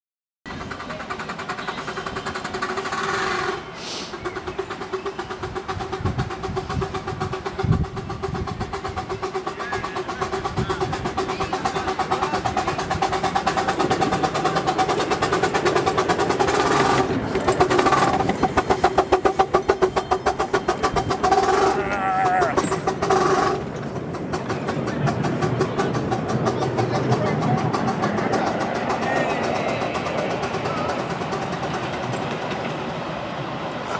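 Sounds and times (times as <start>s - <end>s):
steam locomotive exhaust barking: 0.5s - 33.9s.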